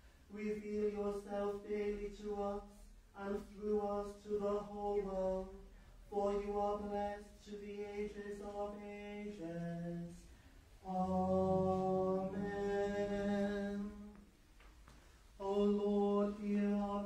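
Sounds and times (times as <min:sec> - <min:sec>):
liturgical chant on held notes: 0:00.3 - 0:14.3, 0:15.4 - 0:17.0.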